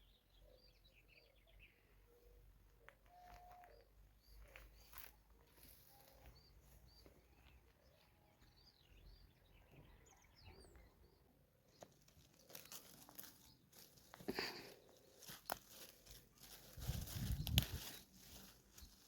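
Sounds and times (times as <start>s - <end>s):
faint bird chirping: 0.0s - 19.0s.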